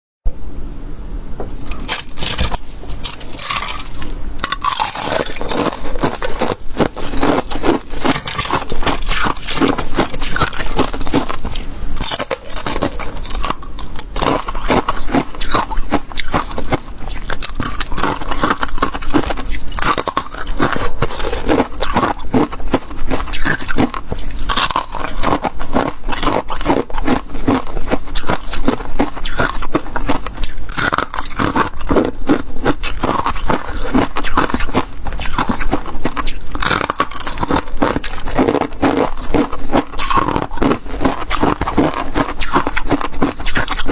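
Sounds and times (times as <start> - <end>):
ice being chewed crunching: 1.6 - 43.9.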